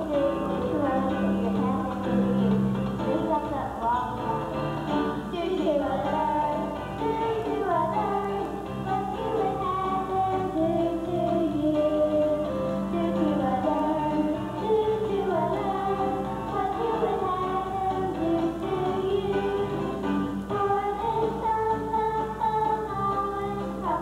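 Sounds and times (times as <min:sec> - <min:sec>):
girls singing: 0:00.0 - 0:24.0
instrumental accompaniment: 0:00.0 - 0:24.0.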